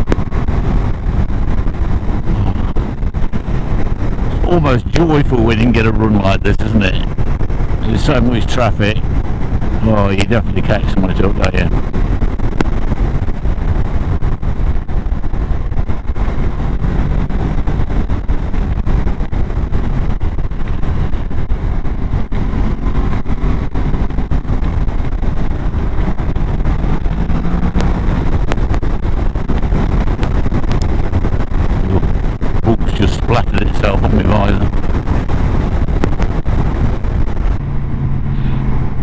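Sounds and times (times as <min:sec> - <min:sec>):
motorcycle engine: 0:00.0 - 0:39.0
wind noise on microphone: 0:00.0 - 0:39.0.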